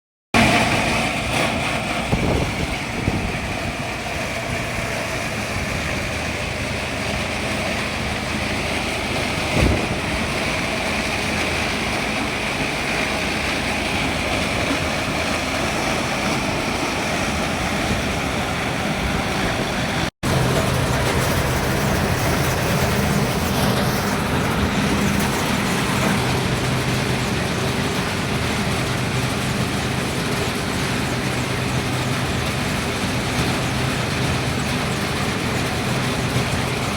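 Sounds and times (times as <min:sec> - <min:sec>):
harvester engine and machinery: 0:00.4 - 0:36.9.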